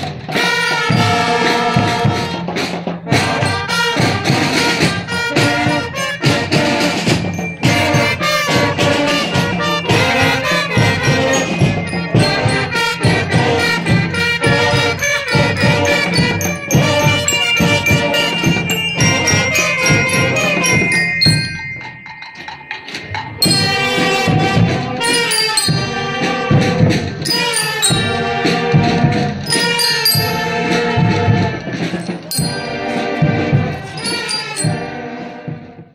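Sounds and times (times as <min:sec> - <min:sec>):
drums keeping a steady beat: 0:00.0 - 0:35.9
marching band playing: 0:00.0 - 0:35.9.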